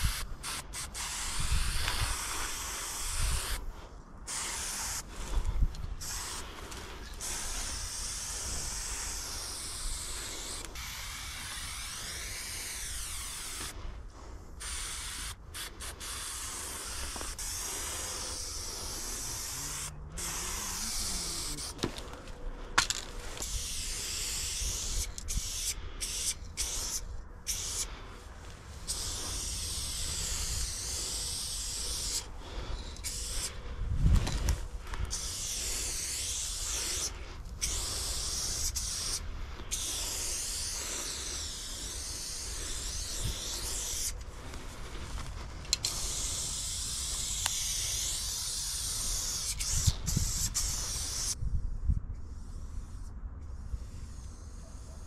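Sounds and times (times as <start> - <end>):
spray paint can hissing: 0.0 - 22.1, 22.8 - 28.0, 28.8 - 51.4, 52.2 - 55.0.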